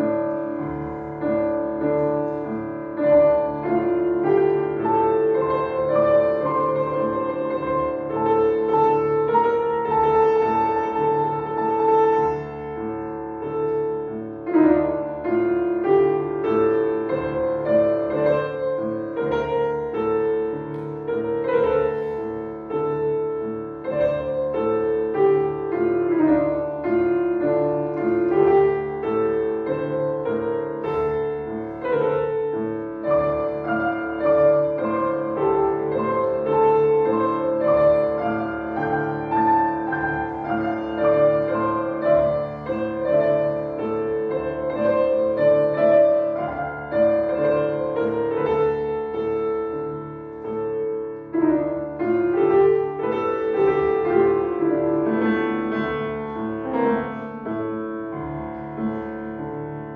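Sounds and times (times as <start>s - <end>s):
piano playing: 0.0s - 59.9s.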